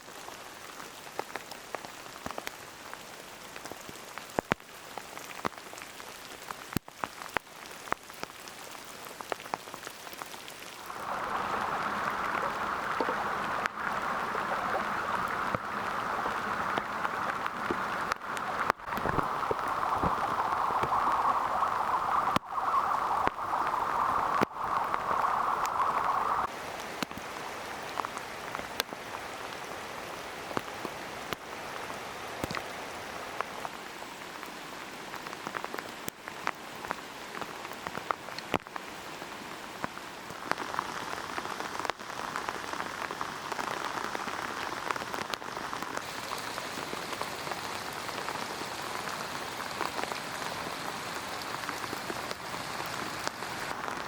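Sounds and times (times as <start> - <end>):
rain falling: 0.0 - 54.0
raindrops clicking close by: 0.0 - 54.0.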